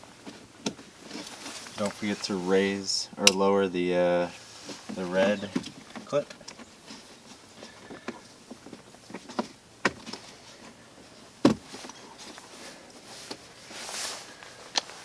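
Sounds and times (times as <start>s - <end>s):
short rustle: 0.2s - 15.0s.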